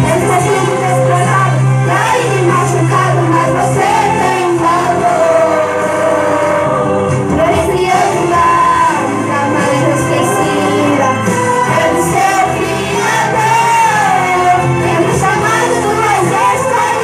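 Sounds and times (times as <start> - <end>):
amplified accompaniment: 0.0 - 17.0
women singing: 0.0 - 17.0.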